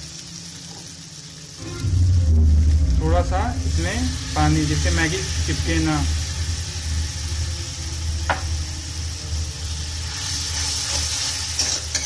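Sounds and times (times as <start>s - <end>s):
induction cooktop hum: 0.0s - 12.0s
noodles simmering and sizzling: 0.0s - 12.0s.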